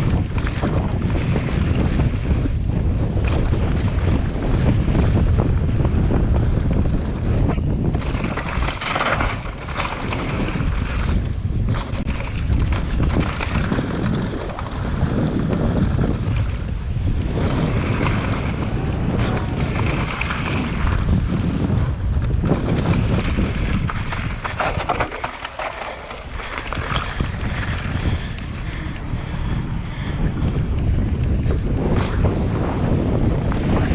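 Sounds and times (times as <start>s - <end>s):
bike rattling over bumps: 0.0s - 33.9s
tyres on dirt: 0.0s - 33.9s
wind buffeting microphone: 0.0s - 33.9s.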